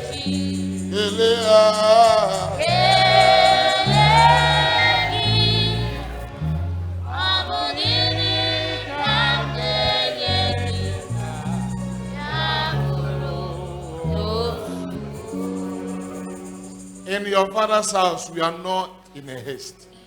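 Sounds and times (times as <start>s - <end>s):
bass notes: 0.0s - 19.5s
congregation singing gospel: 0.0s - 20.0s.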